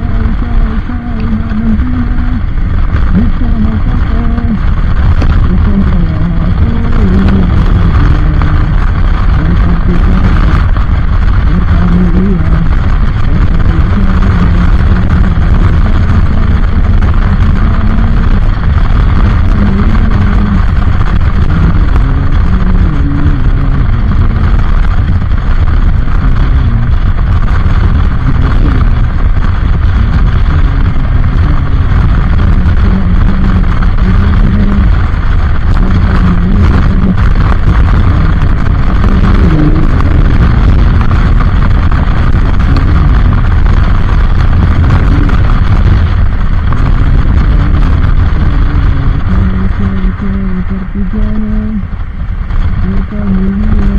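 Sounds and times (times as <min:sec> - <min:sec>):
vehicle rumbling in motion: 0:00.0 - 0:53.9.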